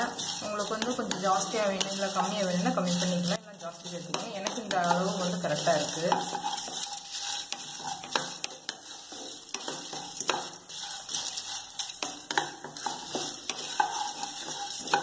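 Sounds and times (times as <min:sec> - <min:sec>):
faint sizzle: 0:00.0 - 0:15.0
spatula scraping a pan: 0:00.0 - 0:15.0.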